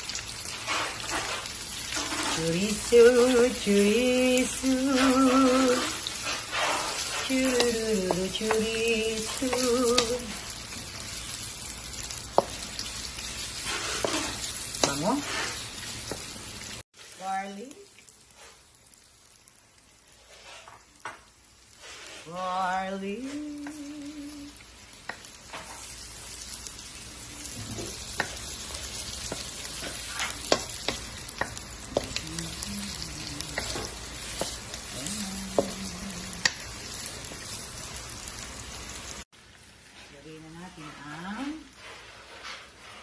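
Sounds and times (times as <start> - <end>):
food frying in oil: 0.0 - 43.0.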